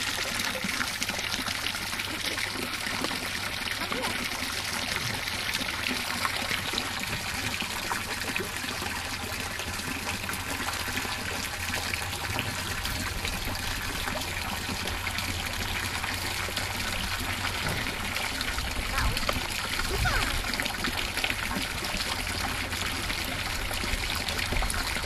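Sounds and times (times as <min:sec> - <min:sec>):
trickle of running water: 0:00.0 - 0:25.0.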